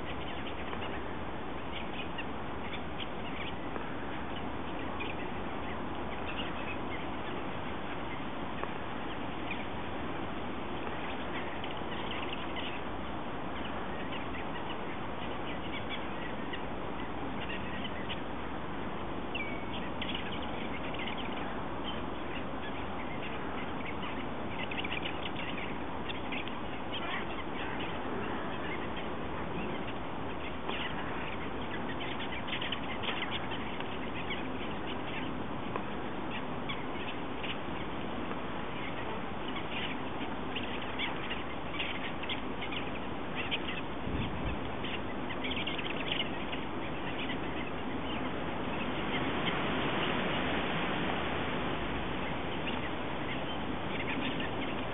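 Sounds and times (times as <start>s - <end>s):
godwits and ducks calling: 0.0s - 10.0s, 10.6s - 18.3s, 19.3s - 54.9s
steady background hiss: 0.0s - 54.9s.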